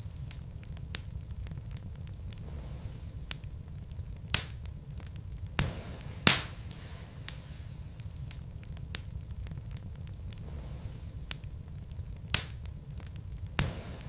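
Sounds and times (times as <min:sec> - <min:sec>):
logs crackling in a fireplace: 0:00.0 - 0:14.0
low fire rumble: 0:00.0 - 0:14.0.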